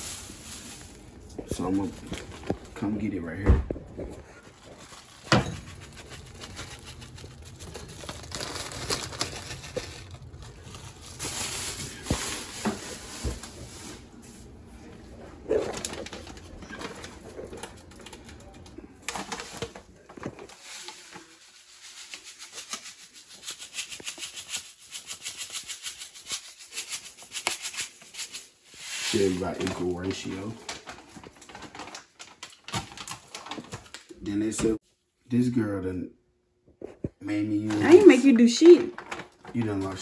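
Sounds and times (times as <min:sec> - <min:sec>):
plastic bag rustling: 0:00.0 - 0:25.0, 0:28.7 - 0:34.1, 0:37.6 - 0:40.0.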